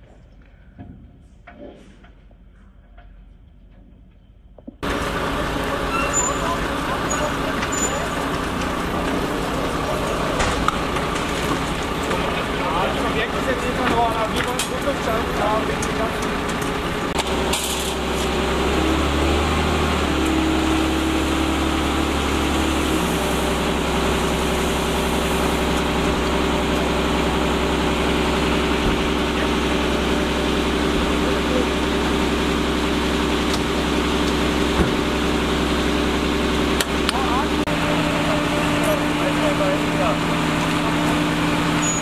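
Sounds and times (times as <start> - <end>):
fire engine running: 4.8 - 42.0.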